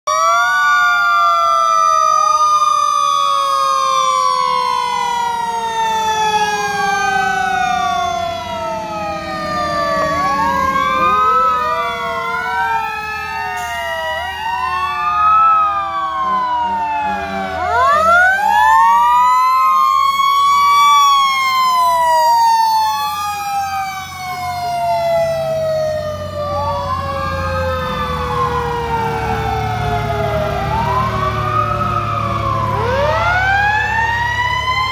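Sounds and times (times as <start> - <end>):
fire truck sirens wailing: 0.0 - 34.9
truck engines rumbling: 0.1 - 34.9.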